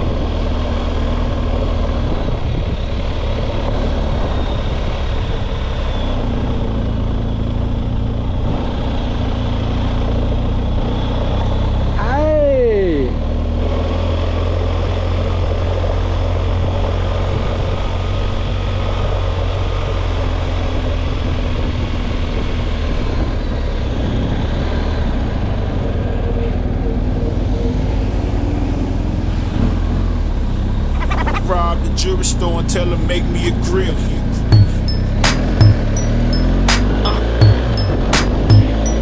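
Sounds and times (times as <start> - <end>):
motorcycle engine and road noise: 0.0 - 39.0.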